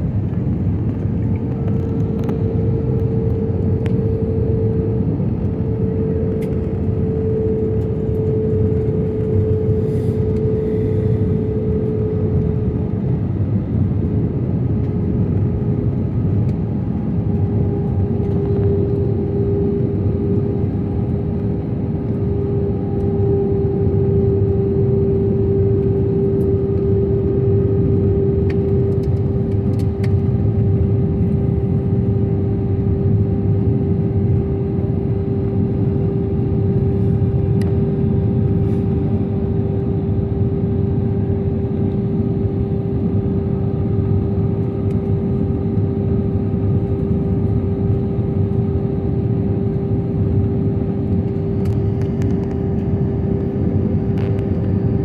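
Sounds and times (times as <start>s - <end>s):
constant humming tone: 0.0s - 55.0s
jet engines and airflow rushing: 0.0s - 55.0s.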